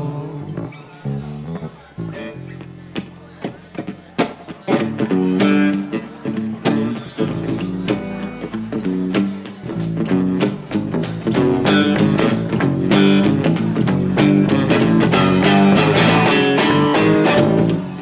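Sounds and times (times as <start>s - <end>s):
electric bass: 0.0s - 18.0s
electric guitar: 0.0s - 18.0s.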